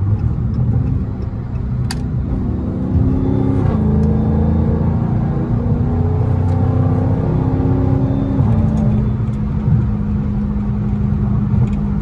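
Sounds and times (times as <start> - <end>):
car engine accelerating: 0.0 - 12.0
road noise: 0.0 - 12.0.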